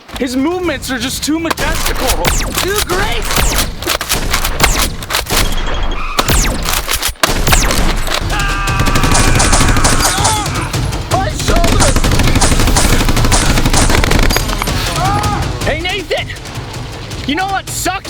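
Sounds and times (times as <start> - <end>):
background music: 0.0 - 18.0
rapid gunfire: 1.6 - 18.0.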